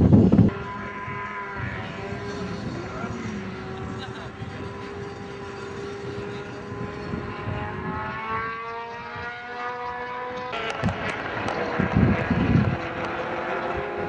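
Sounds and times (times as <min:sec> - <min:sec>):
race car engines accelerating: 0:00.0 - 0:14.0.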